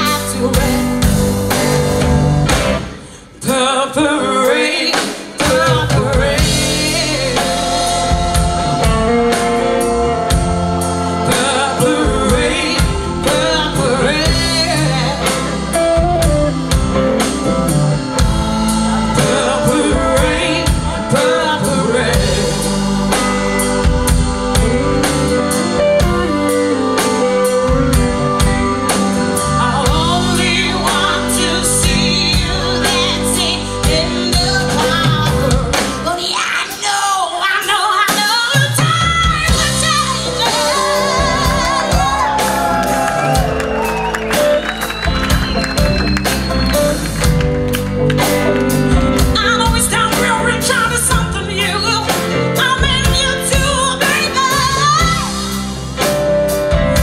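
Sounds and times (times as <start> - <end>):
woman singing: 0.0 - 2.0, 3.0 - 10.4, 11.1 - 43.5, 49.2 - 55.6
drum kit: 0.0 - 3.8, 4.4 - 57.0
electric guitars: 0.0 - 36.4, 38.6 - 57.0
bass: 0.0 - 57.0.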